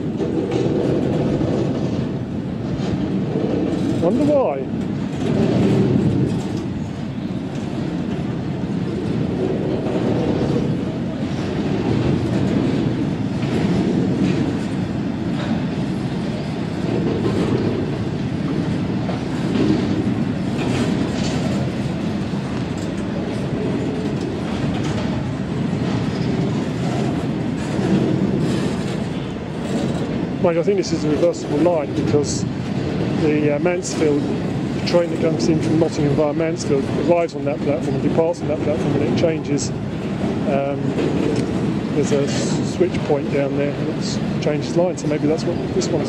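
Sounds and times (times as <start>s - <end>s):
diesel locomotive engine running: 0.0s - 46.0s
train wheels clacking over rail joints: 0.0s - 46.0s.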